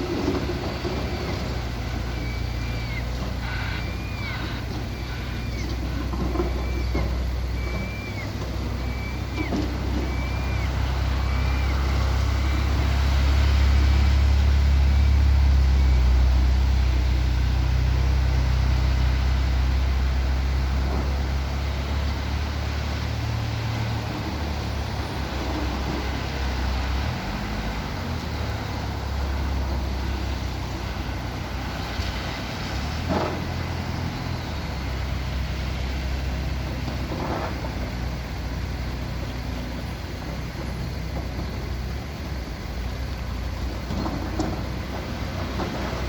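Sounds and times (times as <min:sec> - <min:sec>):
heavy vehicle engines rumbling: 0:00.0 - 0:46.0.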